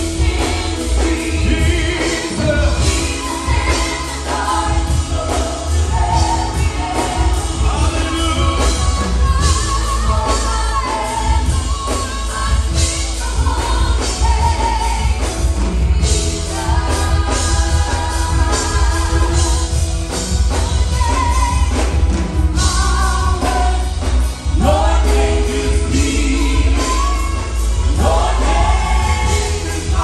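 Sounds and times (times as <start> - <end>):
drums: 0.0 - 30.0
keyboard: 0.0 - 30.0
singers on microphones: 0.0 - 30.0.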